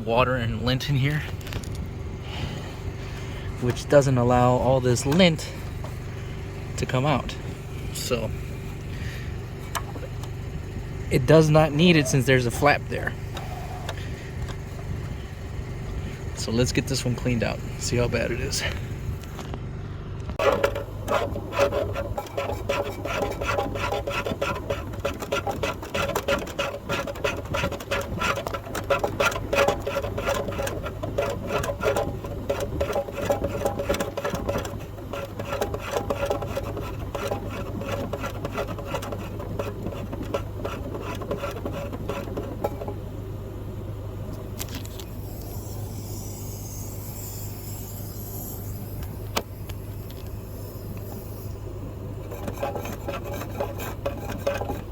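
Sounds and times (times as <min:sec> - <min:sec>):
steady motor hum: 0:00.0 - 0:54.9
rotary brush rattling scrape: 0:00.4 - 0:15.2, 0:16.0 - 0:19.4, 0:20.4 - 0:43.0, 0:44.6 - 0:54.9.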